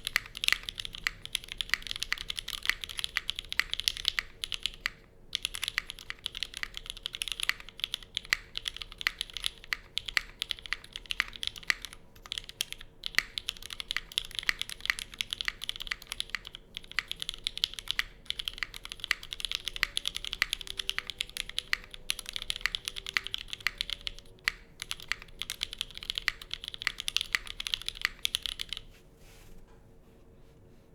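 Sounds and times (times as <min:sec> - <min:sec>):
mechanical keyboard typing: 0:00.0 - 0:28.9.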